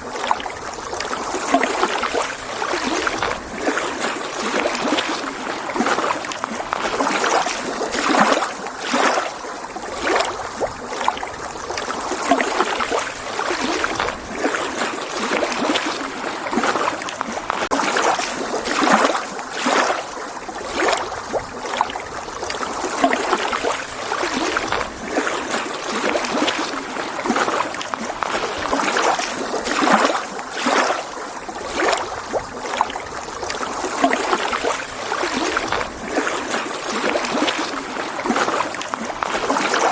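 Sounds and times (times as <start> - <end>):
lake waves lapping on shore: 0.0 - 39.9.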